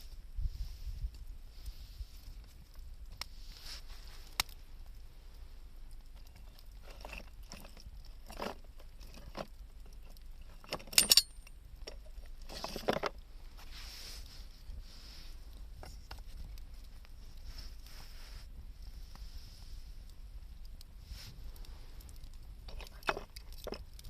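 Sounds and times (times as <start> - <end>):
campfire crackling: 0.0 - 24.0
loud cracks of burning wood: 1.0 - 24.0.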